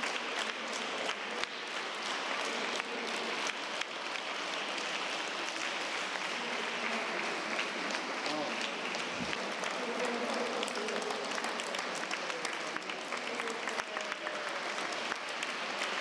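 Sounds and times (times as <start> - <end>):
children clapping: 0.0 - 16.0.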